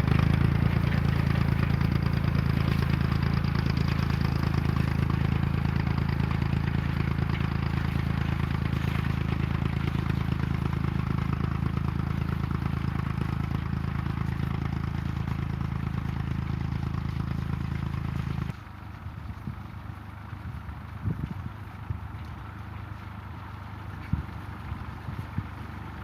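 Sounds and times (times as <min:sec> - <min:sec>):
tractor engine running: 0:00.0 - 0:26.0
uneven engine clatter: 0:00.0 - 0:26.0.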